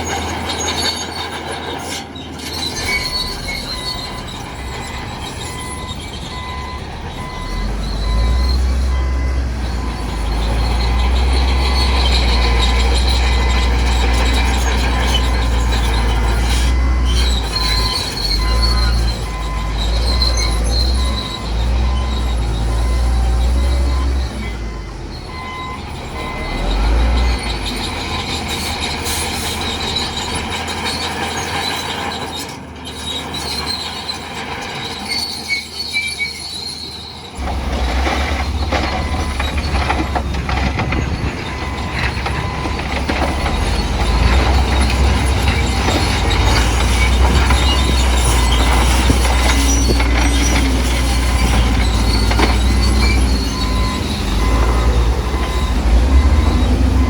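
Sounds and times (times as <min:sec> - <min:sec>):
bulldozer engine rumbling: 0:00.0 - 0:57.0.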